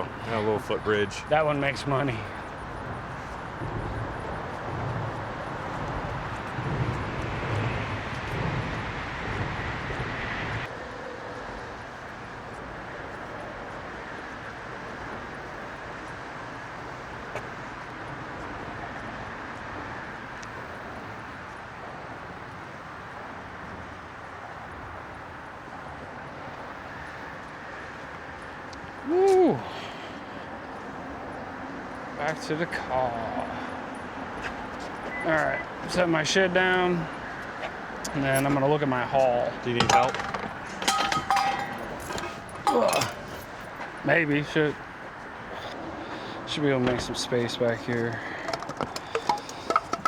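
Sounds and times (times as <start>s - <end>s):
outdoor background noise: 0.0s - 50.0s.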